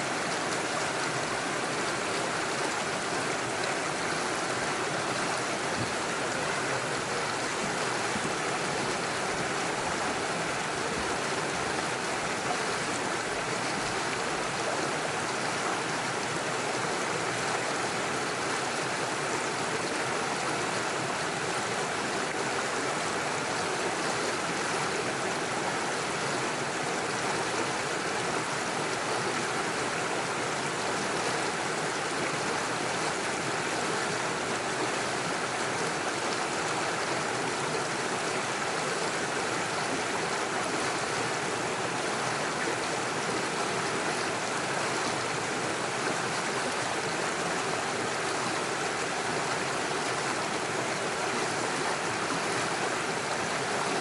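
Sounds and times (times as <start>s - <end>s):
stream rushing over stones: 0.0s - 54.0s.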